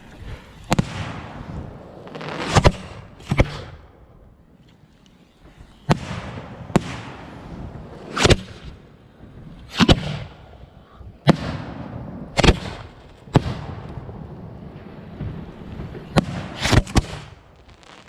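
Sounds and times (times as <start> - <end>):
firework bangs with rumbling echo: 0.7 - 3.9, 5.9 - 18.0.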